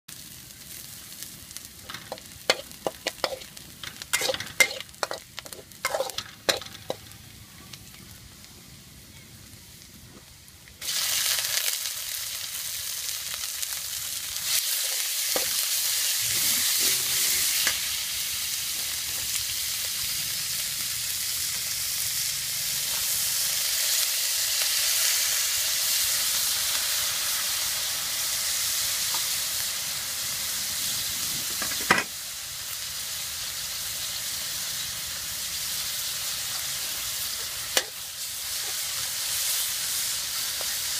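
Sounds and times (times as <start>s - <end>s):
chicken sizzling in hot oil: 0.1s - 40.9s.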